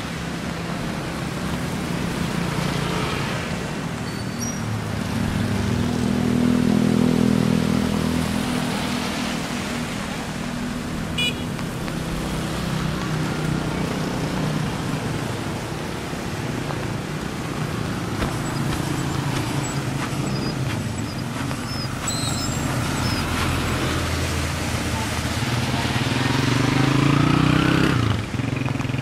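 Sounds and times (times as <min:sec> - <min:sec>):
tyres hissing on wet road: 0:00.0 - 0:29.0
vehicle engines running: 0:00.0 - 0:29.0.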